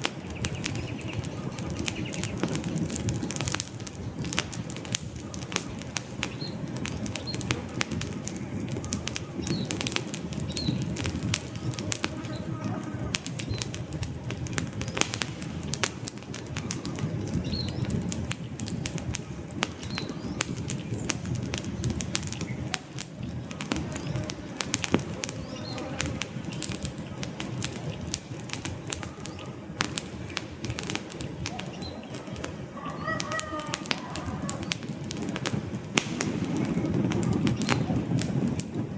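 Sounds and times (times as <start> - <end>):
low rumble of burning logs: 0.0 - 38.9
wood fire crackling and popping: 0.0 - 38.9.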